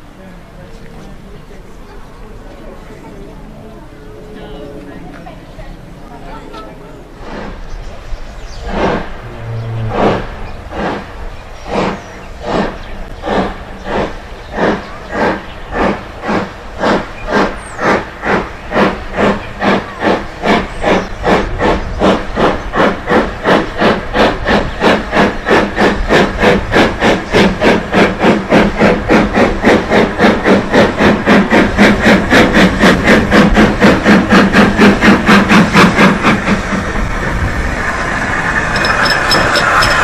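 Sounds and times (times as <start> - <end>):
steam locomotive exhaust beats: 0.0 - 40.0
steam hiss: 7.1 - 40.0.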